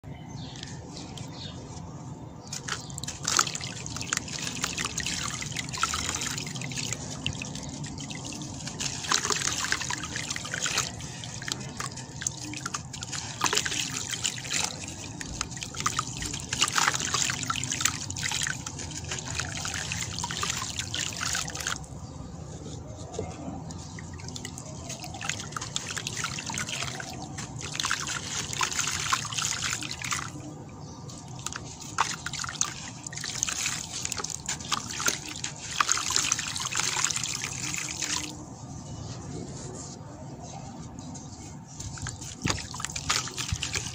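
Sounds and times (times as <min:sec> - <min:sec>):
crumbs splashing into water: 0:02.5 - 0:21.9, 0:23.8 - 0:38.4, 0:41.8 - 0:43.9.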